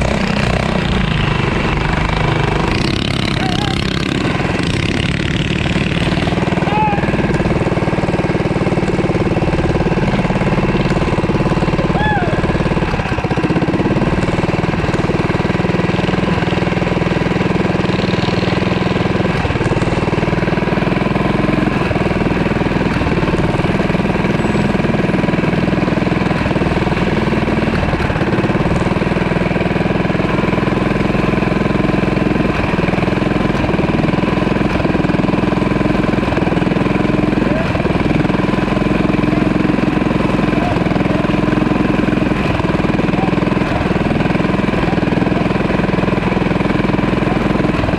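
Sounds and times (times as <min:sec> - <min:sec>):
small bike engine running: 0:00.0 - 0:47.9.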